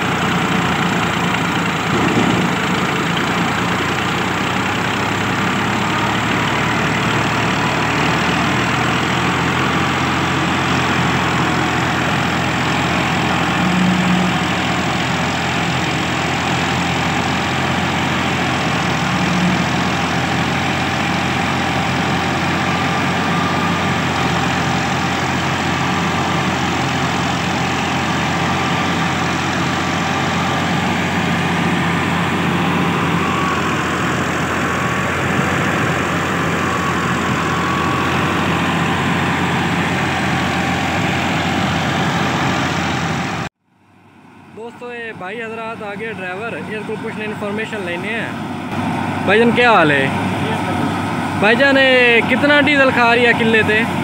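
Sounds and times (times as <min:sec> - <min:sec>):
thresher drum whirring: 0:00.0 - 0:43.5
tractor diesel engine running: 0:00.0 - 0:54.0.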